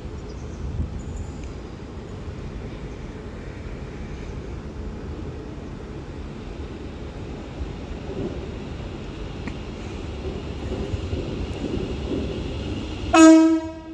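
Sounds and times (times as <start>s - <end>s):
train wheels rumbling: 0.0s - 13.9s.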